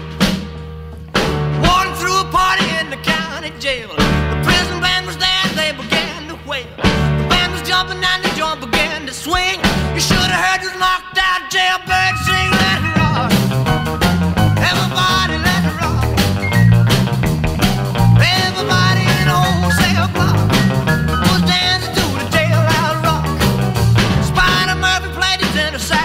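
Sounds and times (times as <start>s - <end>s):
rock and roll music: 0.0s - 26.0s.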